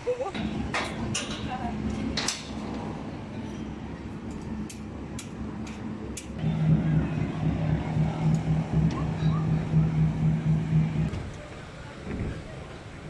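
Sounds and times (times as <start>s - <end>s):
low machinery rumble: 0.0s - 13.0s
pulsing machine hum: 0.4s - 11.1s.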